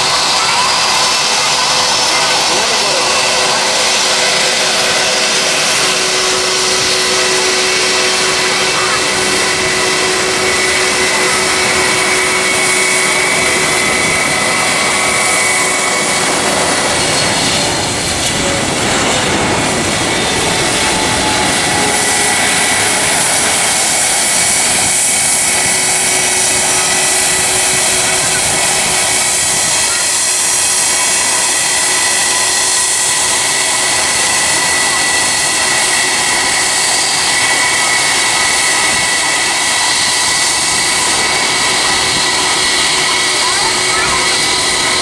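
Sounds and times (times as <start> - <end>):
falling tone of passing jet: 0.0 - 45.0
high engine whine: 0.0 - 45.0
jet airliner engine rush: 0.0 - 45.0.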